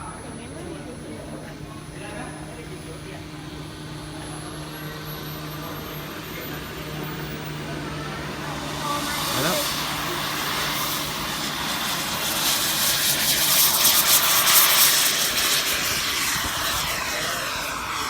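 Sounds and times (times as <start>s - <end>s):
model airplane motor whine: 0.0s - 18.0s.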